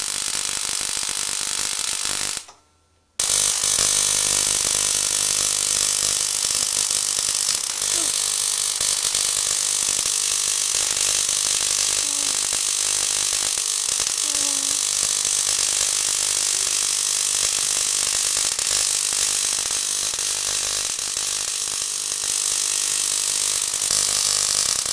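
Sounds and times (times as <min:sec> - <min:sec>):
tesla coil buzzing sparks: 0:00.0 - 0:02.5, 0:03.2 - 0:24.9.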